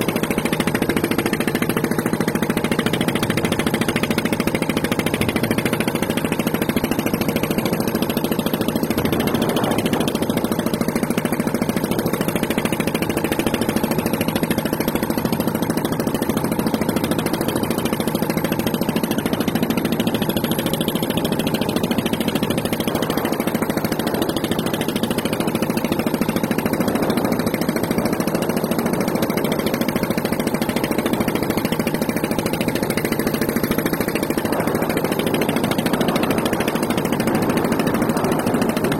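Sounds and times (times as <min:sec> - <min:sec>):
steady mechanical drone: 0:00.0 - 0:38.9.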